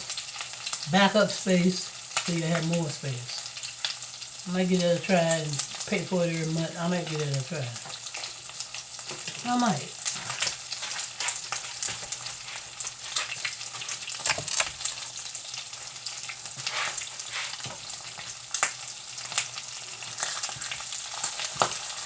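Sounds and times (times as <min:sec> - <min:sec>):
grease popping: 0:00.0 - 0:22.0
meat sizzling in oil: 0:00.0 - 0:22.0.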